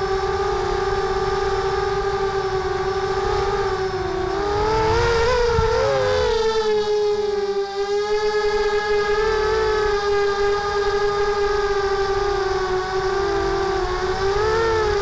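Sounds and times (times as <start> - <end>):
drone motors whining: 0.0 - 15.0
wind rumble on microphone: 0.0 - 15.0.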